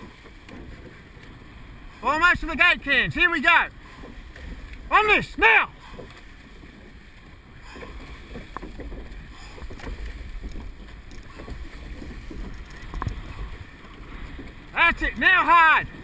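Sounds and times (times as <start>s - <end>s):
wind buffeting microphone: 0.0s - 15.2s
water rushing around boat: 0.0s - 16.0s.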